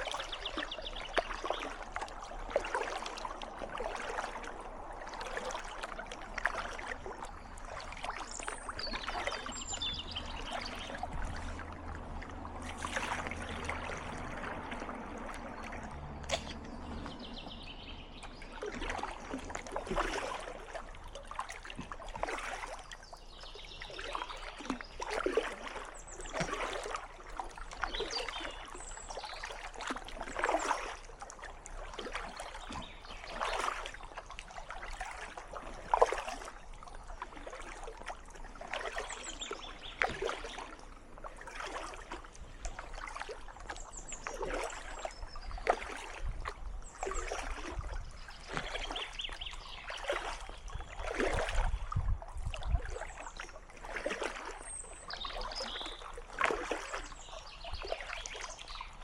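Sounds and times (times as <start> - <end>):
paddle splashing in water: 0.0 - 59.0.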